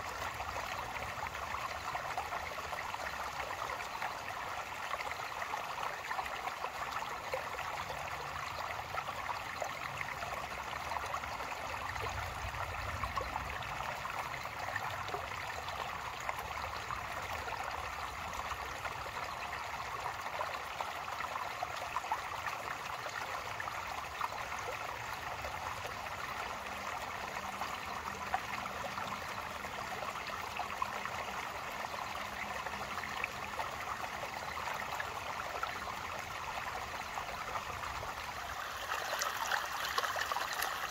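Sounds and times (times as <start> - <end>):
creek trickling over stones: 0.0 - 40.9.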